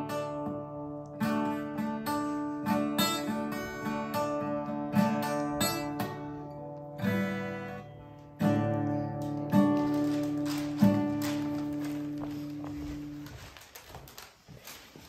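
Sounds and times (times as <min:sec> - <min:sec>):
acoustic guitar strumming: 0:00.0 - 0:13.5.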